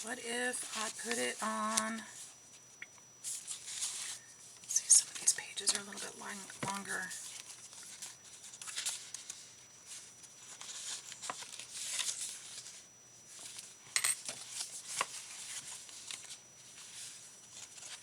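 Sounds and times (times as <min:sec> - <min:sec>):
paper pages rustling: 0:03.2 - 0:18.0.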